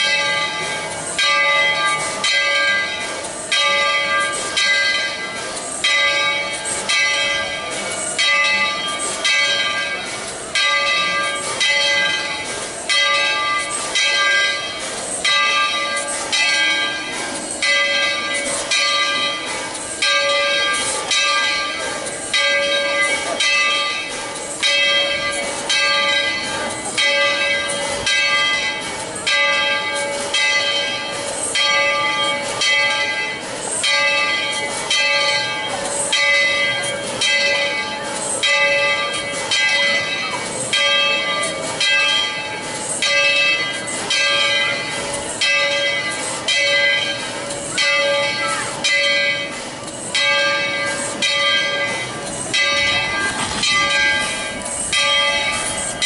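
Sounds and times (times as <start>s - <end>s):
locomotive bell ringing: 0.0s - 56.0s.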